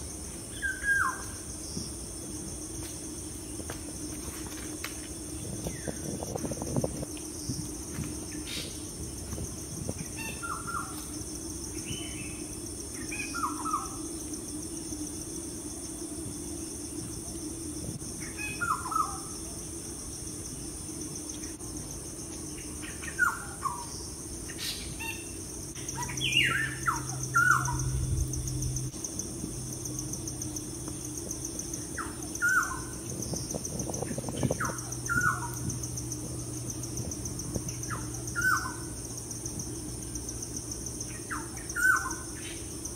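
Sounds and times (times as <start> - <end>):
high insect trill: 0.0 - 42.9.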